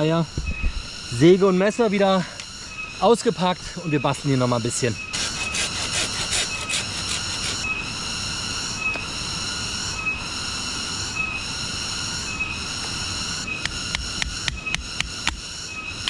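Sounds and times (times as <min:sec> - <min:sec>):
cicada shrill call: 0:00.0 - 0:16.0.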